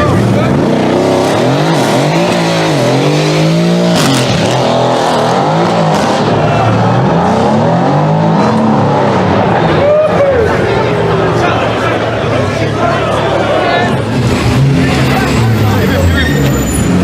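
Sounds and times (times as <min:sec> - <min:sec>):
sports car engine revving: 0:00.0 - 0:09.7, 0:10.5 - 0:17.0.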